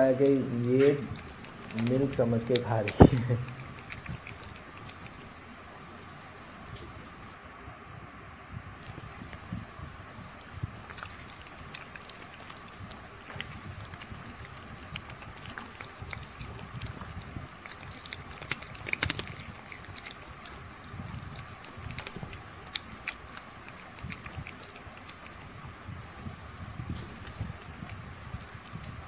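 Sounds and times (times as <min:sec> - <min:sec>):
kittens licking and lapping: 0:00.0 - 0:07.4, 0:08.8 - 0:29.0.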